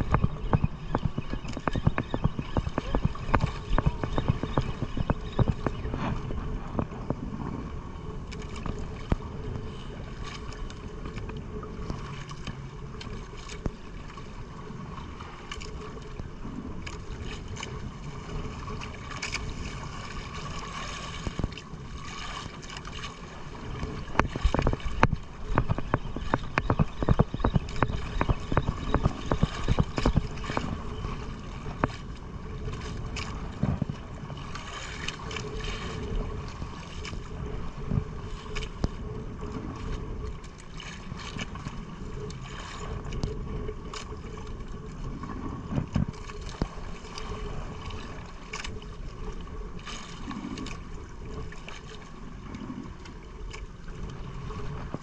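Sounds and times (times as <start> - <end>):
boat engine hum: 0.0 - 55.0
water splashing: 0.0 - 55.0
wind on microphone: 0.0 - 55.0.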